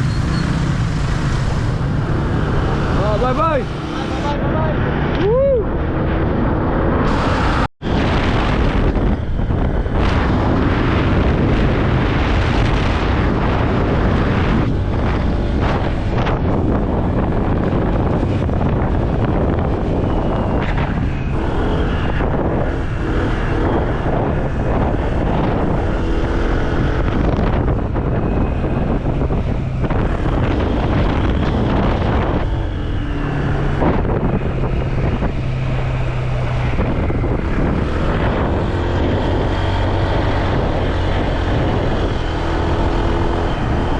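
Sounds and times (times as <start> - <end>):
motorbike engine droning: 0.0 - 43.9
wind rushing over microphone: 0.0 - 43.9.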